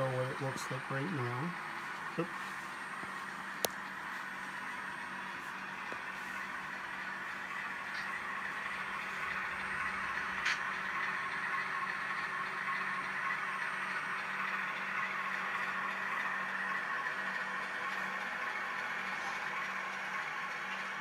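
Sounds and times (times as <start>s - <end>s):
low hum: 0.0s - 21.0s
model train whir and rattle: 0.0s - 21.0s.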